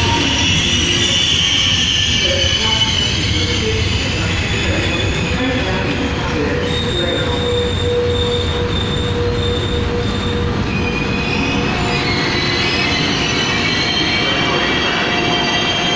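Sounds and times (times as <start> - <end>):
high pulsing squealing: 0.0 - 15.9
train wheels rumbling on rail: 0.0 - 15.9.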